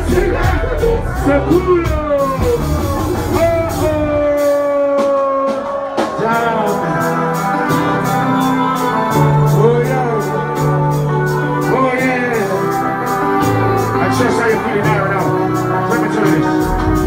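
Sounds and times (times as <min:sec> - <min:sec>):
man singing: 0:00.0 - 0:17.0
reggae band playing: 0:00.0 - 0:17.0.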